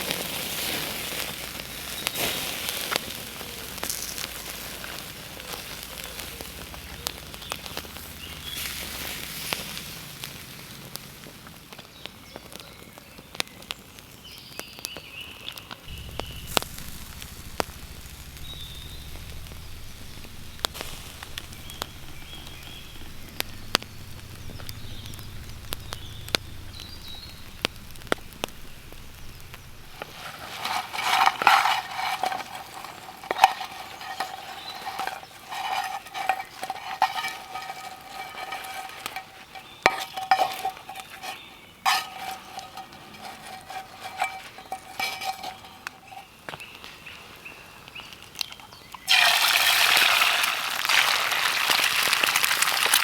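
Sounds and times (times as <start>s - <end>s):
food sizzling on grill: 0.0s - 11.7s, 15.9s - 46.6s, 49.1s - 53.0s.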